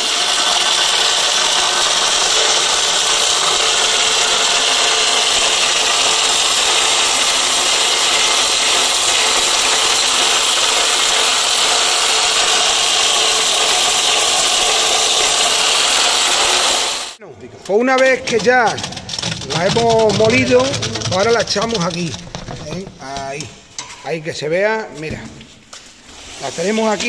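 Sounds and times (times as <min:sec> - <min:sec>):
olive mill grinding: 0:00.0 - 0:23.9.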